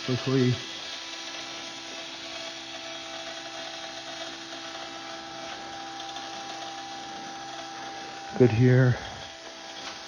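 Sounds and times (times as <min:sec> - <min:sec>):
electric fuel pump humming: 0:00.0 - 0:10.0.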